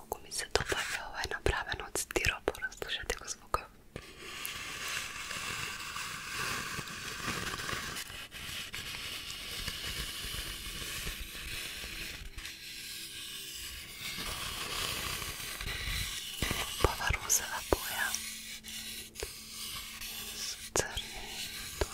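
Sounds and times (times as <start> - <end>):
fingernails scratching egg surface: 4.1 - 21.9.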